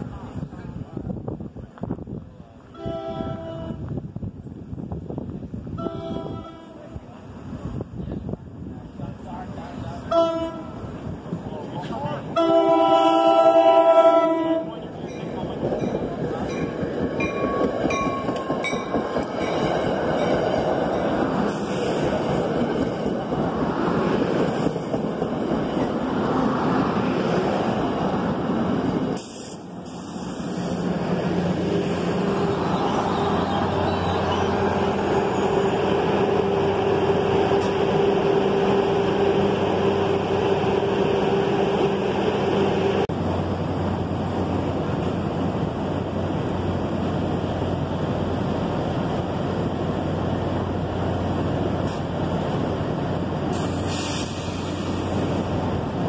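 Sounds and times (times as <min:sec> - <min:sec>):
diesel locomotive humming: 0:00.0 - 0:56.0
train wheels on rails: 0:03.8 - 0:12.5, 0:14.6 - 0:56.0.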